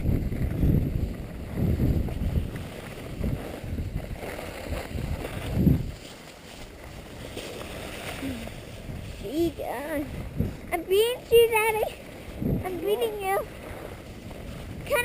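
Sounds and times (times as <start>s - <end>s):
skis running over snow: 0.0s - 15.0s
wind buffeting microphone: 0.0s - 15.0s.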